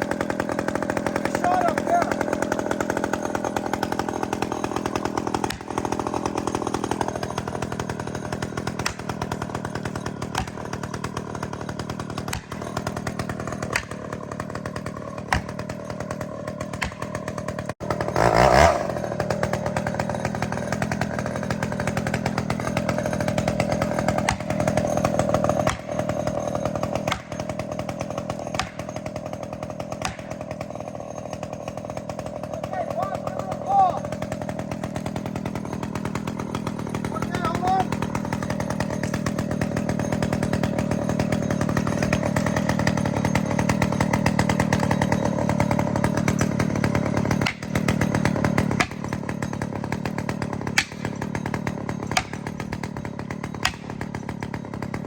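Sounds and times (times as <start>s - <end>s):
chainsaw running: 0.0s - 55.0s.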